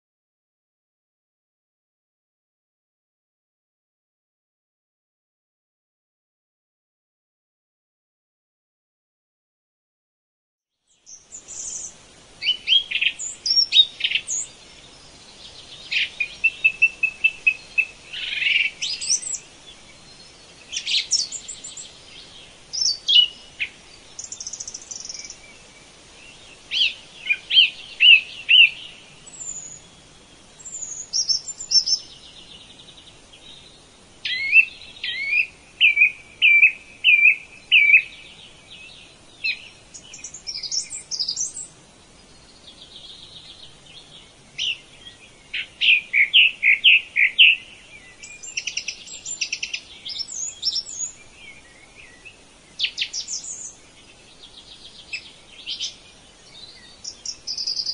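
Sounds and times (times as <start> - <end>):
birds calling and singing: 10.9 - 57.9.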